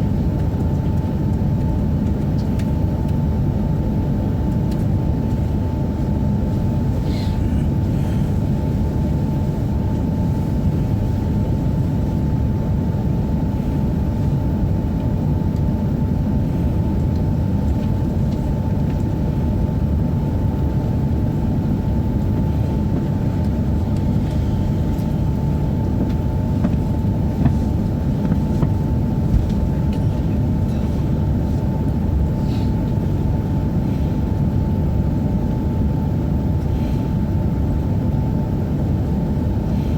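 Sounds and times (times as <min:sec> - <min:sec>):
faint steady whine: 0:00.0 - 0:39.9
low train interior hum: 0:00.0 - 0:39.9.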